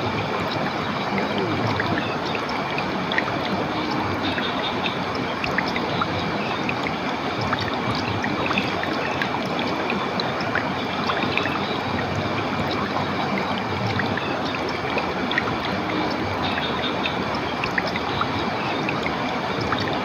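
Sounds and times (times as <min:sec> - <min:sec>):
water drips and splashes: 0:00.0 - 0:20.0
water rushing: 0:00.0 - 0:20.0.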